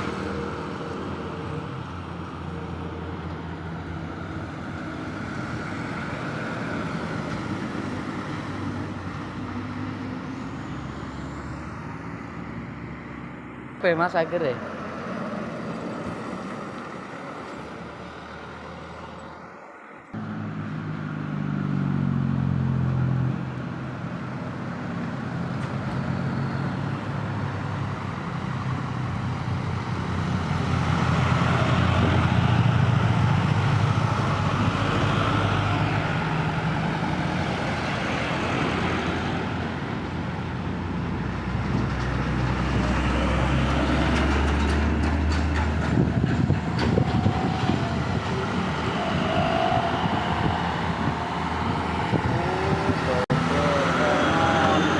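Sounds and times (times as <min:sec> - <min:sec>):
truck engines: 0:00.0 - 0:54.9
tyres rushing on road: 0:00.0 - 0:54.9.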